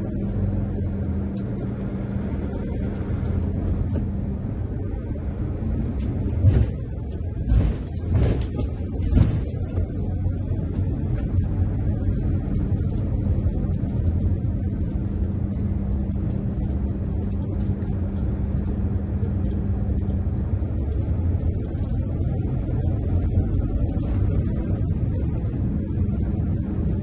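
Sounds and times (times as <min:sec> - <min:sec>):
engine and road rumble: 0:00.0 - 0:27.0
low hum: 0:00.0 - 0:27.0.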